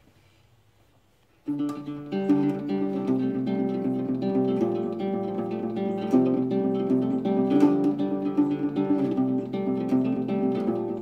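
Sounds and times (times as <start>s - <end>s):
guitar picking single notes: 1.4s - 11.0s.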